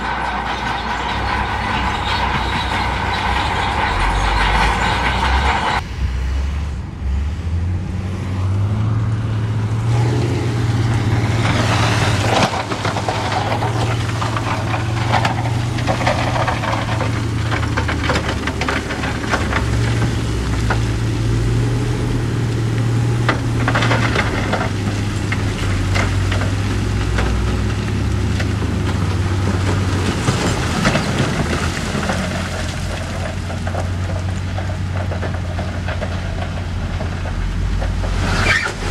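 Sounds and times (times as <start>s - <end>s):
rock rattling and scraping: 0.0s - 5.8s, 11.0s - 38.9s
diesel machinery engine drone: 0.0s - 38.9s.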